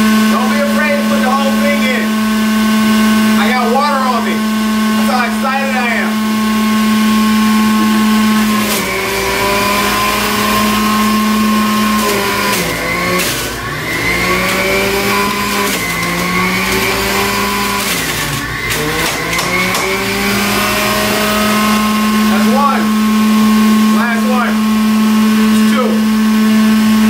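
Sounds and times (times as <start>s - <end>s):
juicer motor whine: 0.0s - 27.0s.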